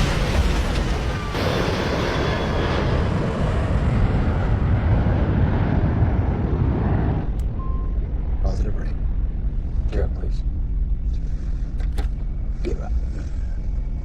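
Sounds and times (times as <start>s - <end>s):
airliner jet rumble: 0.0s - 14.0s.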